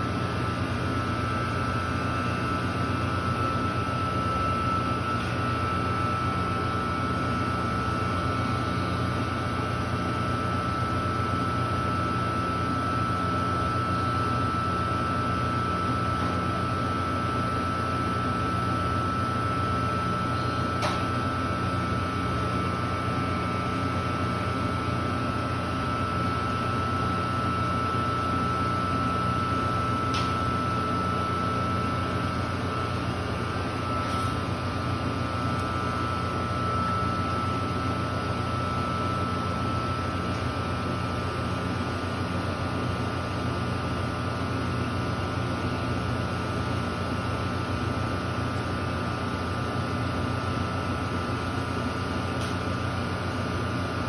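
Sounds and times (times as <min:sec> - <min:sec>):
constant high whine: 0:00.0 - 0:54.0
machine mechanical hum: 0:00.0 - 0:54.0.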